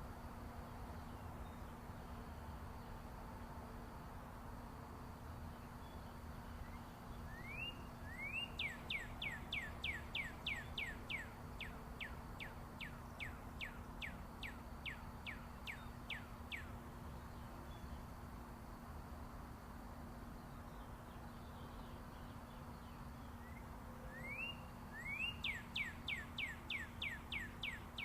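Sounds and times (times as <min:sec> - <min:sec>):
distant highway traffic rumble: 0:00.0 - 0:28.0
songbird singing: 0:00.5 - 0:03.6, 0:05.0 - 0:18.8, 0:20.1 - 0:28.0.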